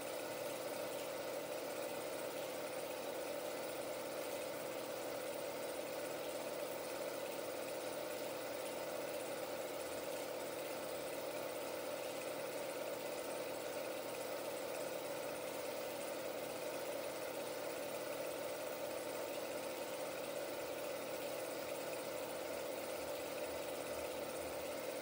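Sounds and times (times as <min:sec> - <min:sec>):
film projector humming and whirring: 0:00.0 - 0:25.0.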